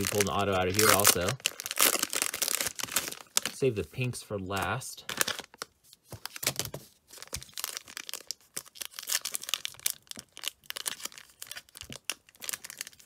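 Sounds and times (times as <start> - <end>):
foil wrapper crinkling: 0.0 - 3.8, 4.6 - 13.0.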